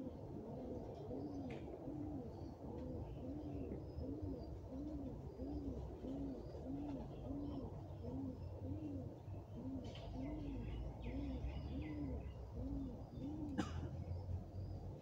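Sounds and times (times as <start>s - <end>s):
dove cooing: 0.0s - 15.0s
small birds chirping: 2.3s - 15.0s.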